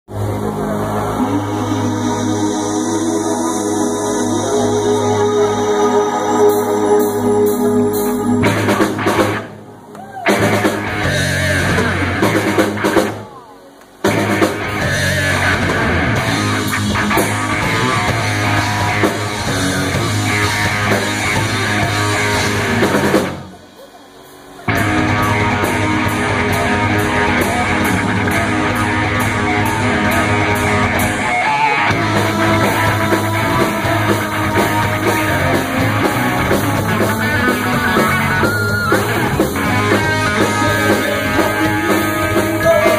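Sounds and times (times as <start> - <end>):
heavy metal band playing: 0.1 - 13.3, 14.0 - 42.9.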